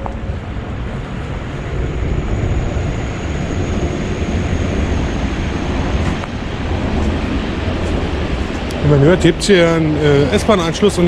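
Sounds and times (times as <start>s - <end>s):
faint high whine: 0.0s - 11.0s
train rumbling on tracks: 0.0s - 11.0s.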